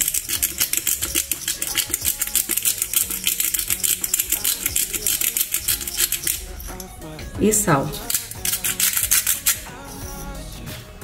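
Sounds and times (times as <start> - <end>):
pepper grinder clicking: 0.0 - 6.9, 7.9 - 9.9.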